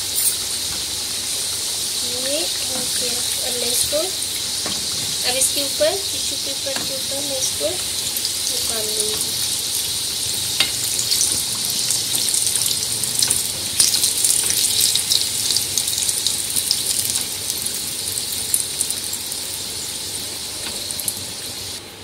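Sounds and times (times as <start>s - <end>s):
crackling sizzle of deep-frying: 0.0s - 22.0s.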